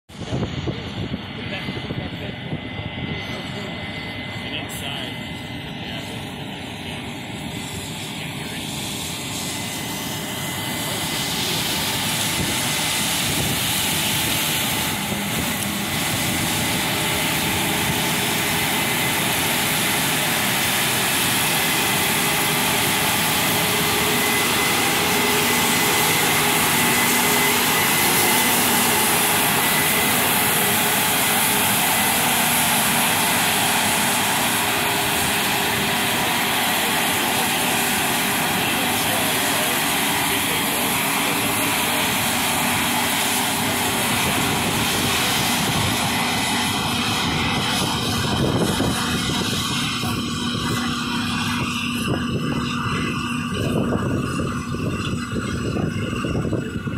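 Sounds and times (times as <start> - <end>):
combine harvester droning: 0.1 - 56.9
high machinery whine: 0.1 - 56.9.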